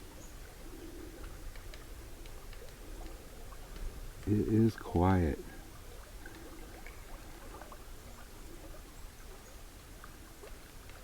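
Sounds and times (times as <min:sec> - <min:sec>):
small ticks and crackles: 0:00.0 - 0:11.0.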